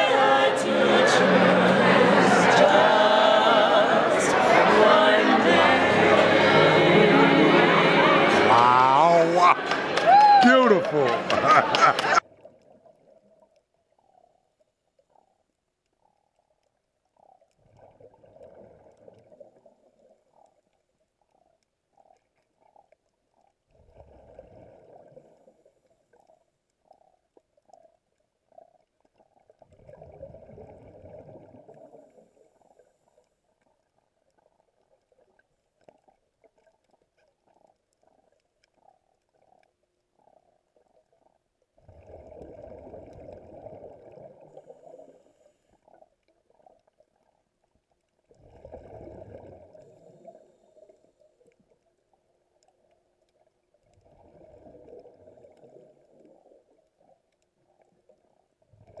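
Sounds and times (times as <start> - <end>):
underwater exhaled bubbles: 10.7 - 59.0.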